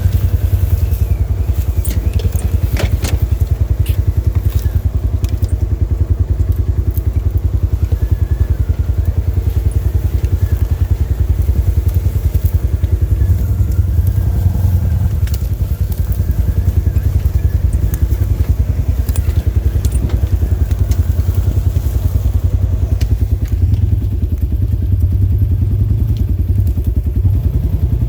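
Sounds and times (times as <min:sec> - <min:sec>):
sharp clicks: 0:00.0 - 0:27.3
vehicle engine running: 0:00.0 - 0:28.0.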